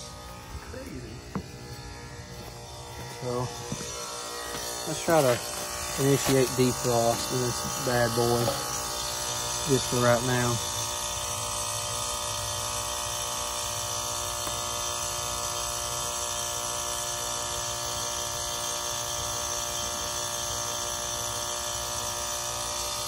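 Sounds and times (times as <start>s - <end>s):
heat pump compressor humming: 0.0s - 23.0s.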